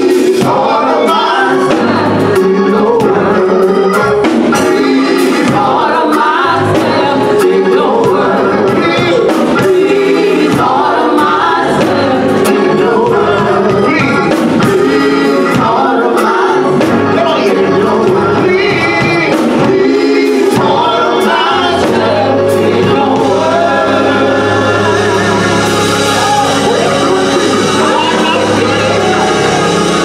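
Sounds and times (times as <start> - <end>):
drums: 0.0 - 30.0
electric keyboard: 0.0 - 30.0
man singing into microphone: 0.0 - 30.0
organ: 0.0 - 30.0.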